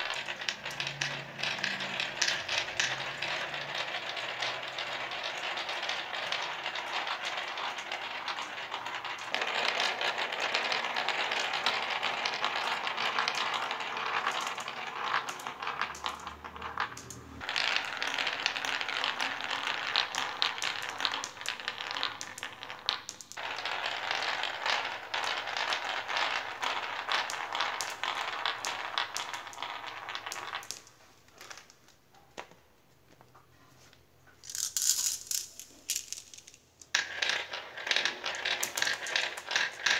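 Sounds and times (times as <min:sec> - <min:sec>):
marbles rattling down wooden track: 0:00.0 - 0:31.8, 0:34.4 - 0:39.9.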